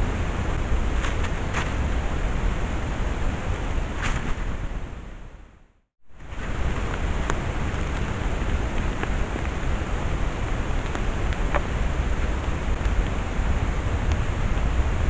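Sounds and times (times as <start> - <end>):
outdoor hiss and low rumble: 0.0 - 15.0.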